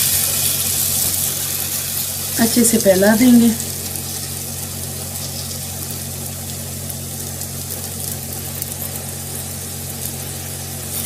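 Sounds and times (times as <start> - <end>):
batter sizzling in hot oil: 0.0 - 11.0
constant low hum: 0.0 - 11.0.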